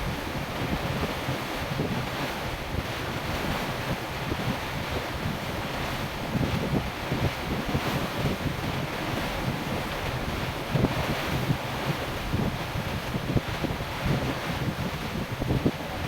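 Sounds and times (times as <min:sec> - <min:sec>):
water washing against hull: 0:00.0 - 0:16.0
wind buffeting microphone: 0:00.0 - 0:16.0.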